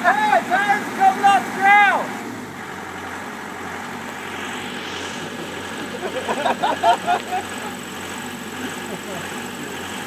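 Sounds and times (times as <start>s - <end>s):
boom lift running: 0.0s - 10.0s.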